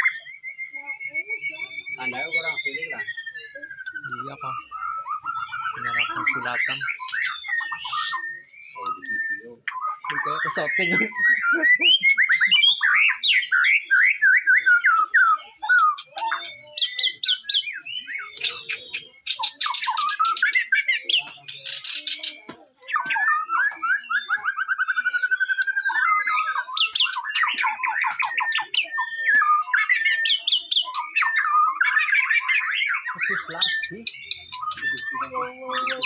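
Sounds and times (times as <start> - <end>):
bird singing: 0.0 - 36.0.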